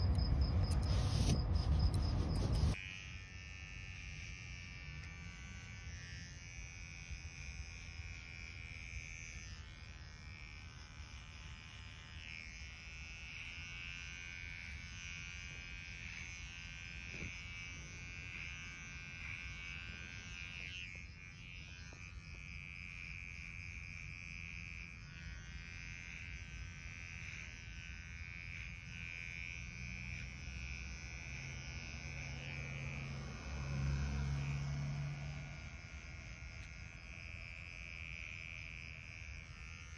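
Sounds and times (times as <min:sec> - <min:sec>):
hair clipper buzzing: 0:00.0 - 0:39.9.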